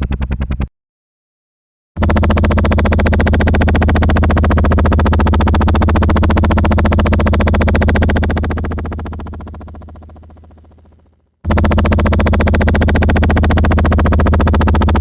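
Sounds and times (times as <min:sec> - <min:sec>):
helicopter rotor chopping: 0:02.0 - 0:15.0.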